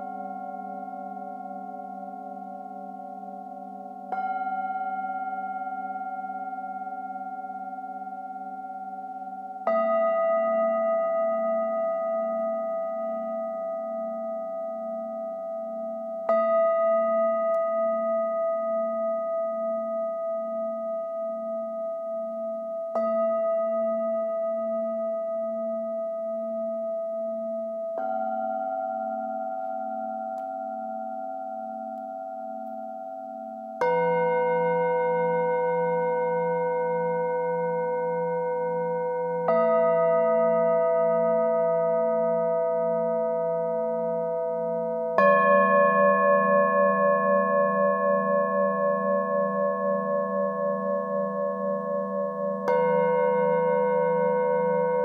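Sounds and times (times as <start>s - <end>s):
singing bowls ringing: 0.0s - 55.0s.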